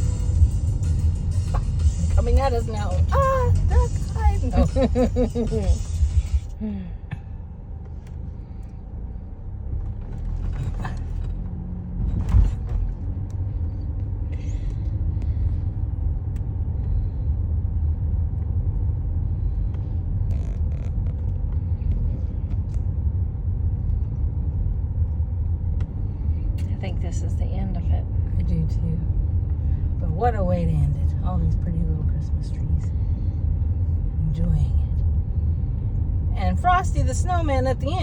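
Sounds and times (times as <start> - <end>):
car engine rumble: 0.0 - 38.0
road noise inside car: 0.0 - 38.0.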